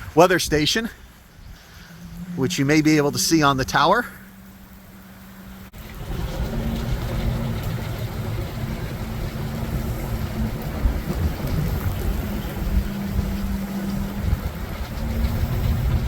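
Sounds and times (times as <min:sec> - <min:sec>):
rushing wind and rain: 0:00.0 - 0:16.0
wind buffeting microphone: 0:00.0 - 0:16.0
low hum: 0:00.8 - 0:16.0.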